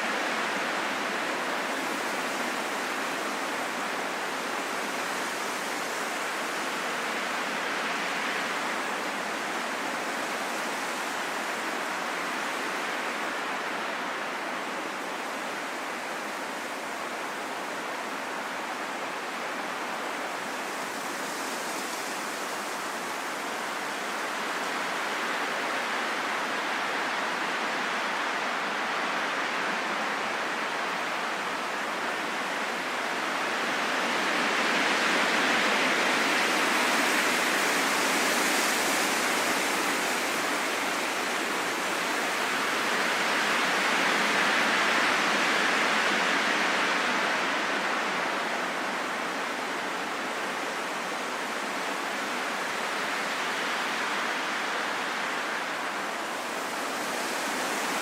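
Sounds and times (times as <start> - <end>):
wind rushing in gusts: 0.0 - 58.0.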